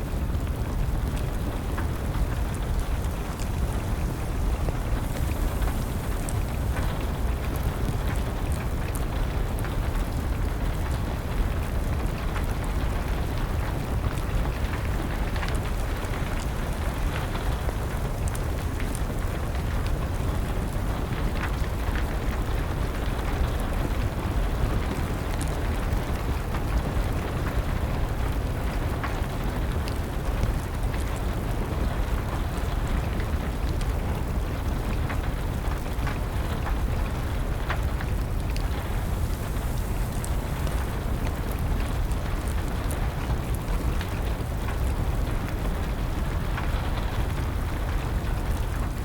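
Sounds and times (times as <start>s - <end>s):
steady rain: 0.0s - 49.0s
wood fire crackling: 0.0s - 49.0s.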